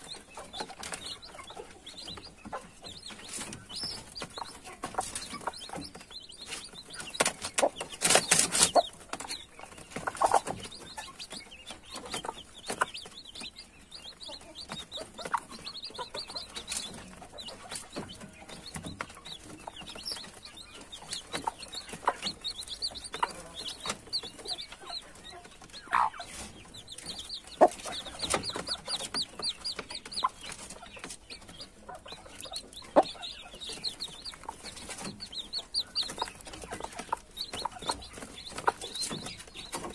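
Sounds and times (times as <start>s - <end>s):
beaks pecking on plastic tray: 0.0s - 39.9s
chicks peeping: 0.0s - 39.9s
hen clucking: 0.0s - 39.9s.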